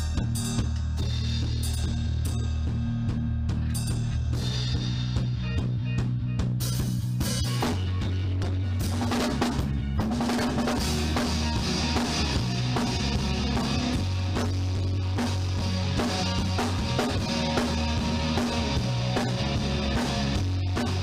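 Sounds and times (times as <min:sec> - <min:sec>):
bass line: 0:00.0 - 0:21.0
rock band playing: 0:00.0 - 0:21.0.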